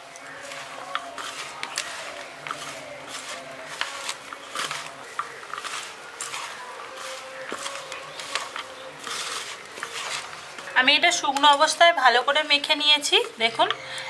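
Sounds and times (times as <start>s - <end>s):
hand mixing wet food squishing: 0.0s - 13.8s.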